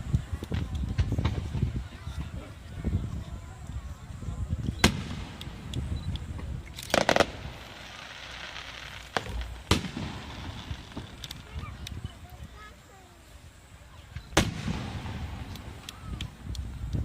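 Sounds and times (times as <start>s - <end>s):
fireworks bangs: 0.0s - 2.6s, 4.6s - 12.7s, 13.9s - 17.0s
fireworks crackling hiss: 0.0s - 17.0s.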